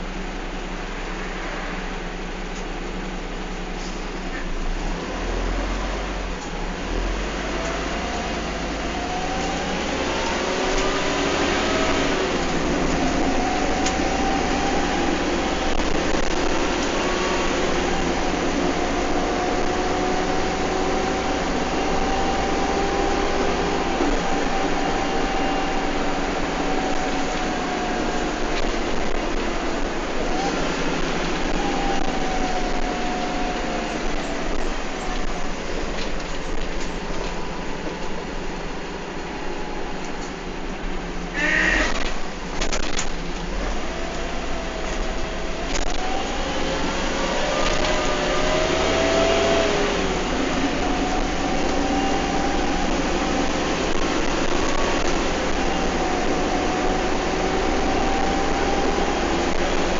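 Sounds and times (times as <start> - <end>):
bus engine whine: 0.0 - 59.9
road rumble: 0.0 - 59.9.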